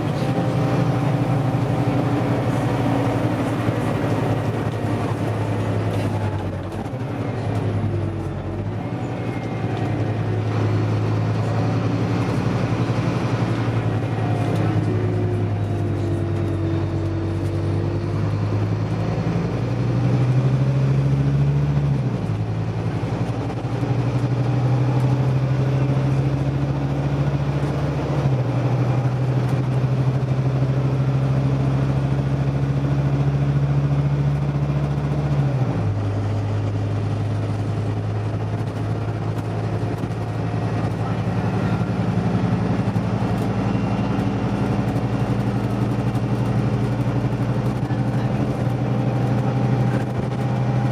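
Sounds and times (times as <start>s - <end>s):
bus engine changing gear: 0.0s - 50.9s.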